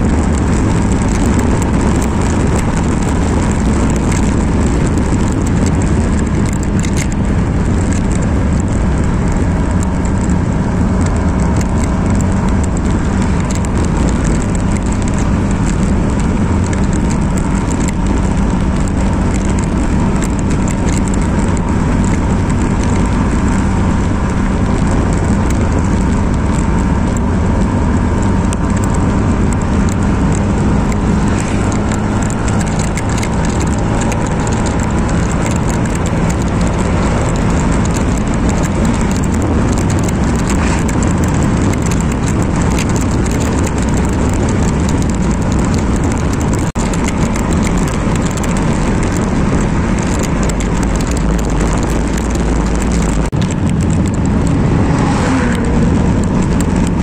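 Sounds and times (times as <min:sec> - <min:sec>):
motorcycle engine humming: 0:00.0 - 0:57.0
wind and road noise: 0:00.0 - 0:57.0.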